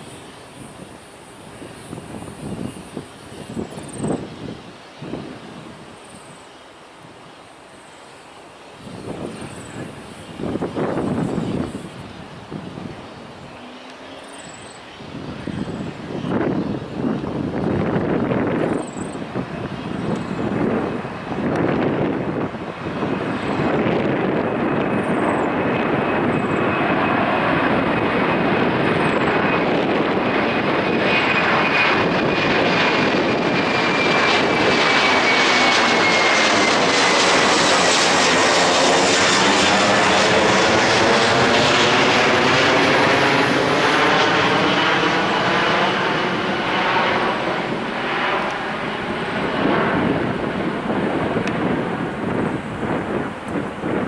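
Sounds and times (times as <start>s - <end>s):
high jet whine: 0.0s - 54.0s
jet engines roaring: 0.0s - 54.0s.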